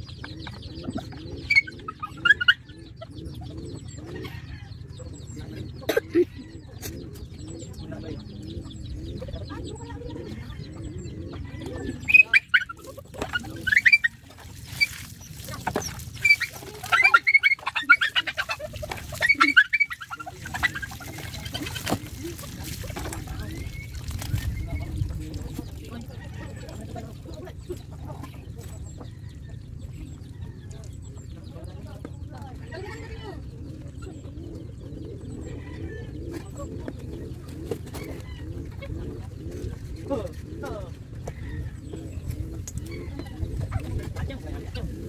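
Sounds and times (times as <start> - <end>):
bird chirps: 0.0 - 45.0
chickens clucking: 0.0 - 45.0.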